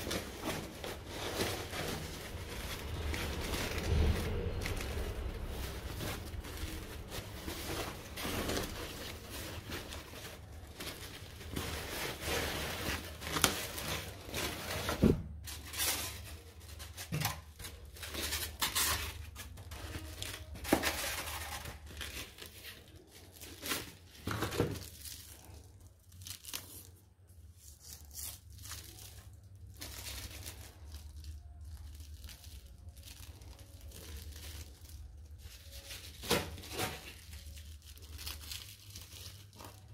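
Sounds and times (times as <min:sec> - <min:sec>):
plastic packing foam crinkling: 0:00.0 - 0:39.9.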